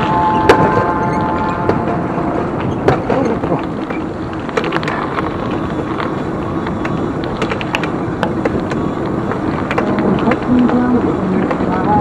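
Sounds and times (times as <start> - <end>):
wind and tyre noise: 0.0 - 12.0.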